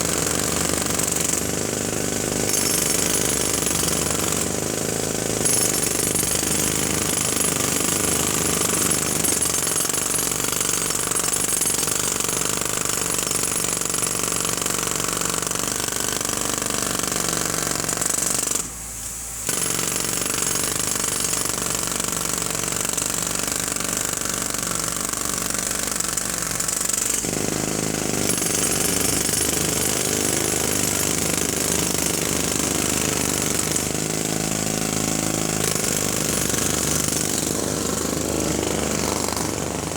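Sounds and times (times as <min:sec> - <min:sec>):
jackhammer hammering: 0:00.0 - 0:18.7, 0:19.4 - 0:39.9.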